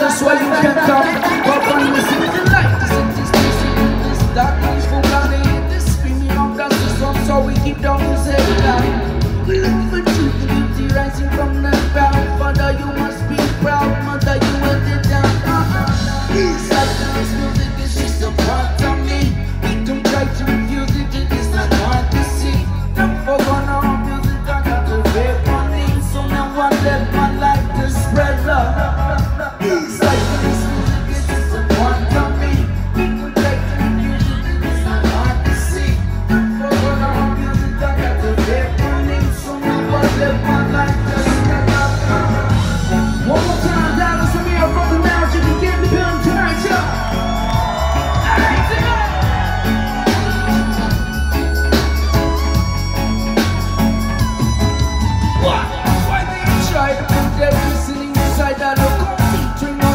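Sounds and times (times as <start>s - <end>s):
drum kit: 0.0s - 59.9s
electric guitar: 0.0s - 59.9s
keyboard: 0.0s - 59.9s
pulsing bass guitar: 0.0s - 59.9s.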